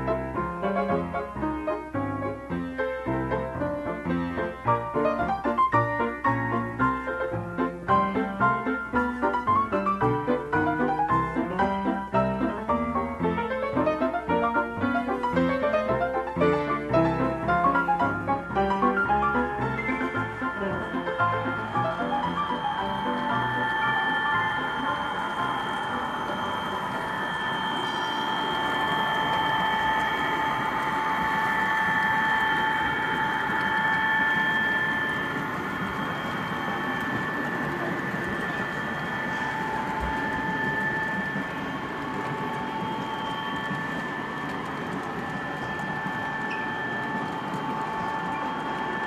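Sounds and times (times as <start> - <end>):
wheels rattling on rail: 3.0 - 49.0
model train motor whine: 6.0 - 49.0.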